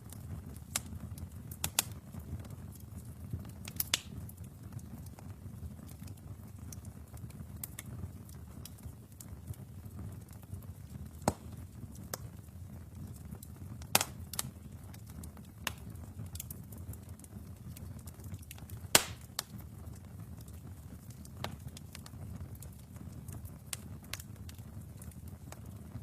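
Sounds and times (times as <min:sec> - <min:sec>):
logs crackling and popping: 0:00.0 - 0:26.0
low rumble of flames: 0:00.0 - 0:26.0.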